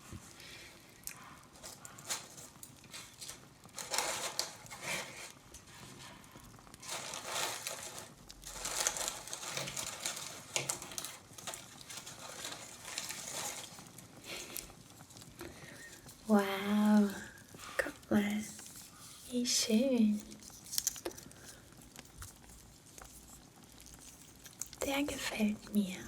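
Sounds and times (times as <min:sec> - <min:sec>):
paper crinkling and rustling: 0:01.5 - 0:25.9.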